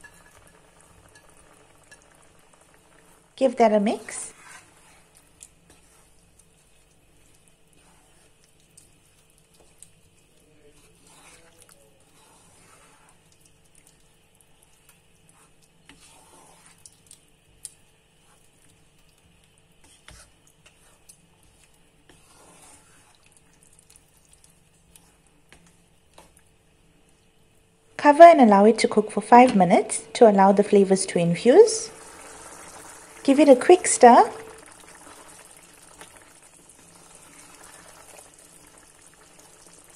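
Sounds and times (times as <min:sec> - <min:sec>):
wooden spoon stirring thick stew: 0:00.0 - 0:27.1, 0:31.4 - 0:39.9.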